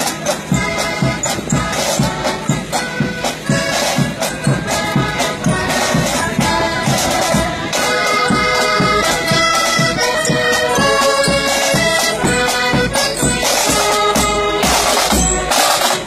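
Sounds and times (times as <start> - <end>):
reed-like melody: 0.0 - 16.0
steady drum beat: 0.0 - 16.0.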